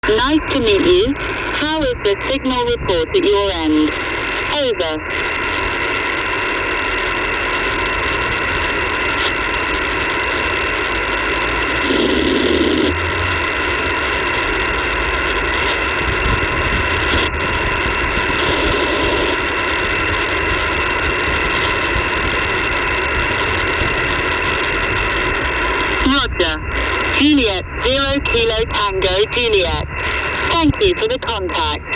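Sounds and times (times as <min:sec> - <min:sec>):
radio static hiss: 0:00.0 - 0:31.9.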